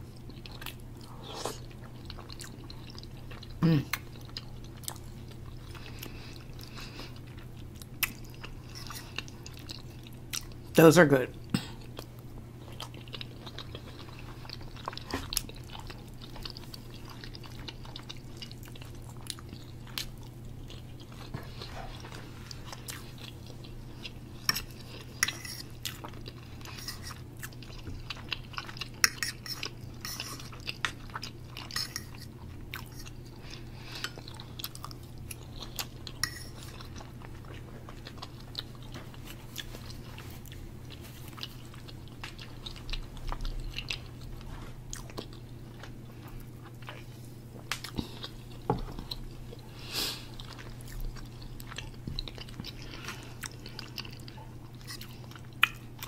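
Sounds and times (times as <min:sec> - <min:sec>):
faint low hum: 0:00.0 - 0:56.0
person chewing: 0:00.1 - 0:10.7, 0:11.4 - 0:56.0.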